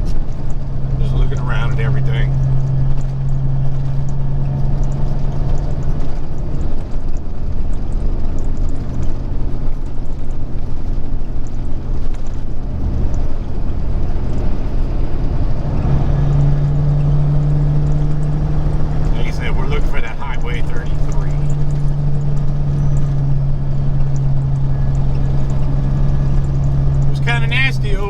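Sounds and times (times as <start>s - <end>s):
low hum: 0.0s - 28.0s
road noise: 0.0s - 28.0s
truck engine drone: 0.0s - 28.0s.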